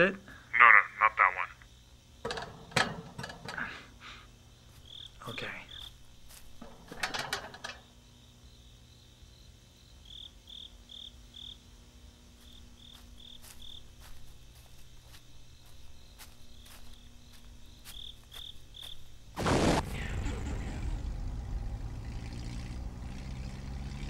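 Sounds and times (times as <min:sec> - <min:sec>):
crickets chirping: 0:00.0 - 0:20.2.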